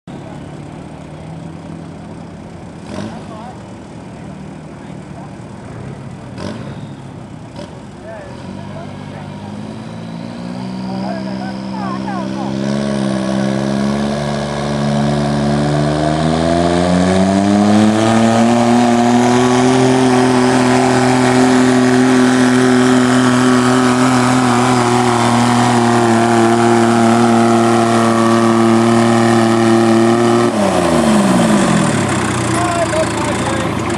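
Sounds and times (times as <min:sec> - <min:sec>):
diesel tractor engine under load: 0:00.1 - 0:33.9.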